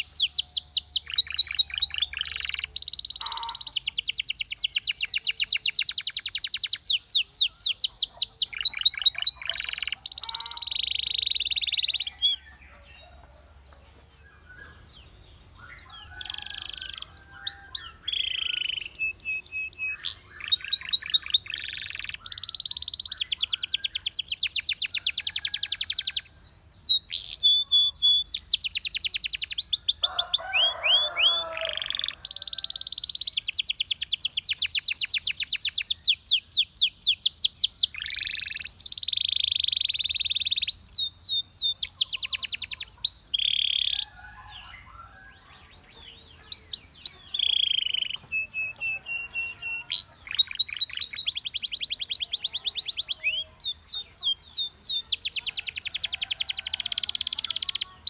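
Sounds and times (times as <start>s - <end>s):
canary singing trills: 0.0s - 13.4s, 14.2s - 58.0s.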